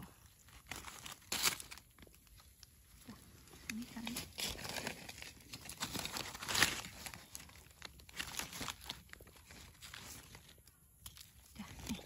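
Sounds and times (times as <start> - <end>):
dead leaves rustling and crackling: 0.4 - 12.0.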